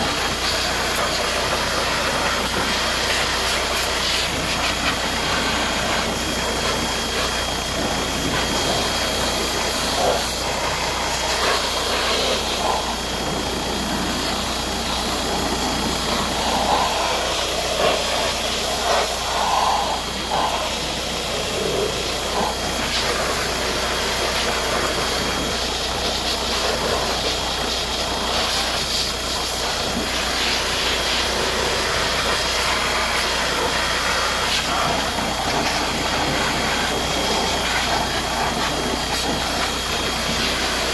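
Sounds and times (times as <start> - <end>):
high whine: 0.0 - 40.9
pressure washer spraying: 0.0 - 40.9.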